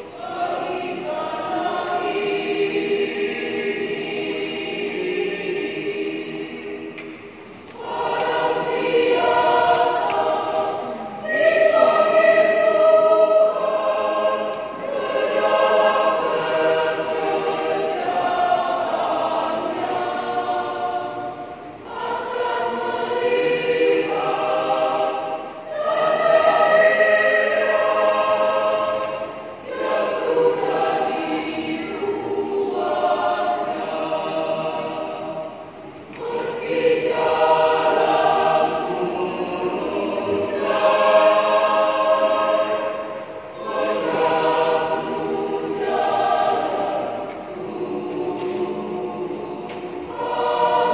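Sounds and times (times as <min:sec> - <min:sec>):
church choir singing a hymn: 0:00.0 - 0:50.9.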